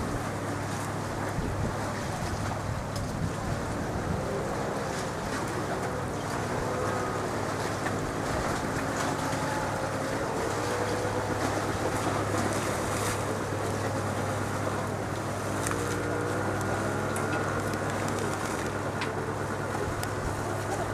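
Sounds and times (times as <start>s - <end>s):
boat engine humming: 0.0s - 20.9s
wind buffeting microphone: 0.0s - 20.9s.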